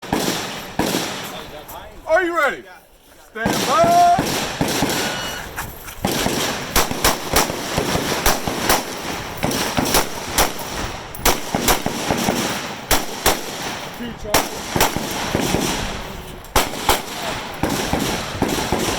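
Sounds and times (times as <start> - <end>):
rifle shots: 0.0 - 1.6, 3.4 - 18.9.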